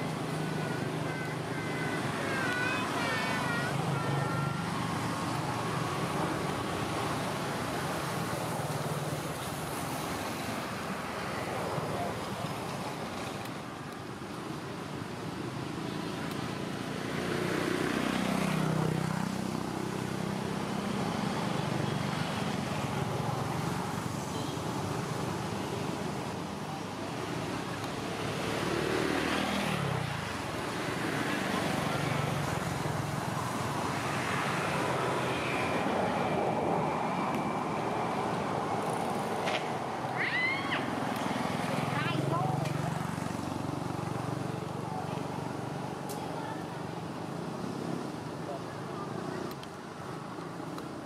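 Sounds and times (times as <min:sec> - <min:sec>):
steady traffic background: 0:00.0 - 0:51.0
vehicles passing by: 0:00.0 - 0:51.0.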